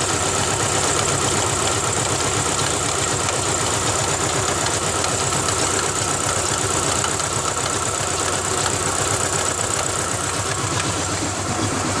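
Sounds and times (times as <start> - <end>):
engine idling roughly: 0.0 - 12.0.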